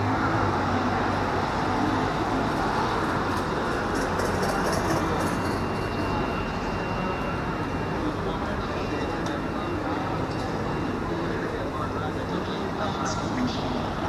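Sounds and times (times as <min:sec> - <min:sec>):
race track pit rumble: 0:00.0 - 0:14.0.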